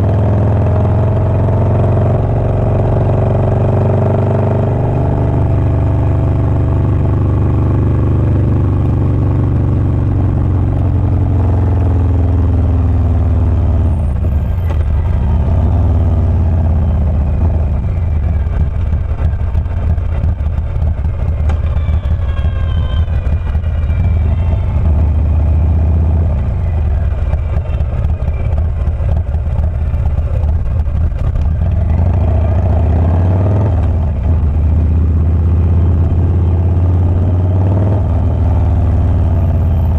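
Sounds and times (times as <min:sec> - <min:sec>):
motorcycle exhaust rumbling: 0:00.0 - 0:39.9.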